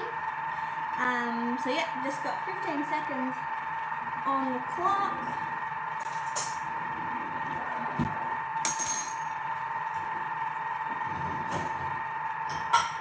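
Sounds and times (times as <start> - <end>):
kitchen appliance motor whine: 0.0 - 13.0.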